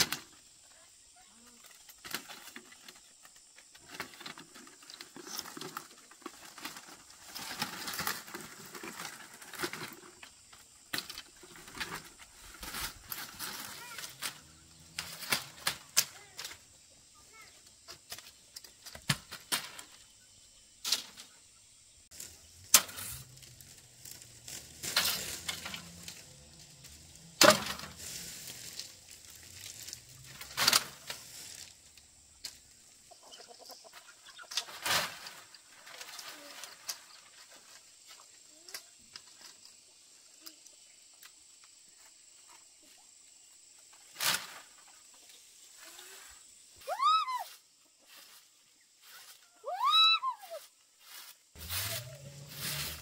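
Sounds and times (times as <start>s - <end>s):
rustling and scraping: 1.4s - 20.2s, 20.8s - 40.0s, 43.6s - 49.6s, 50.4s - 53.0s.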